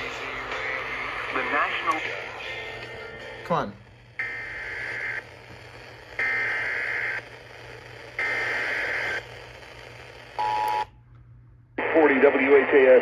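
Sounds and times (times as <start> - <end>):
static hiss: 0.0 - 10.5.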